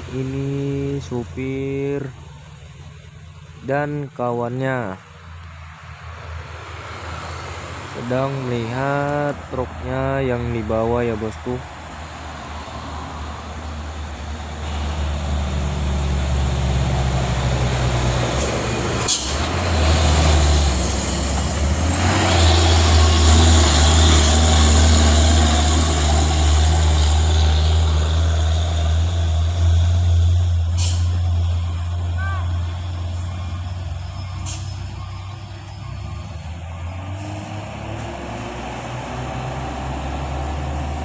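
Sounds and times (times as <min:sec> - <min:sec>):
diesel truck engine labouring: 0:00.0 - 0:41.0.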